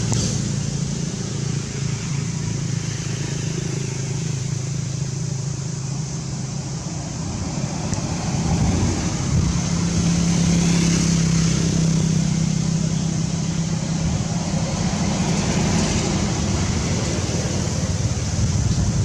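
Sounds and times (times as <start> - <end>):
steady hiss: 0.0 - 19.0
vehicle engine running: 0.0 - 19.0.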